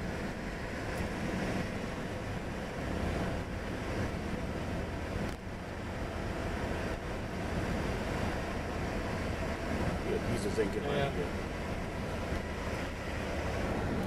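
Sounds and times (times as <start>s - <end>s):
car interior driving noise: 0.0s - 14.0s.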